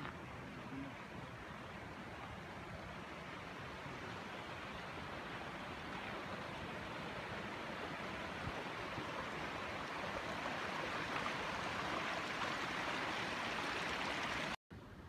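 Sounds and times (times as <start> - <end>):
water rushing over stones: 0.9 - 14.6.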